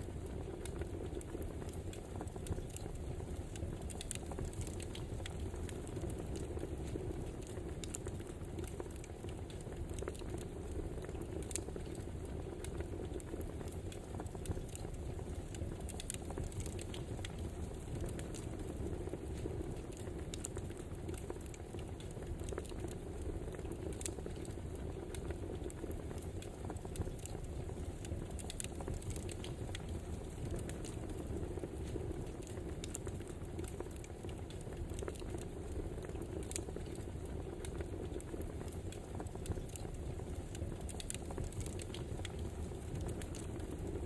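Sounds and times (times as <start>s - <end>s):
fire pops and snaps: 0.0s - 44.0s.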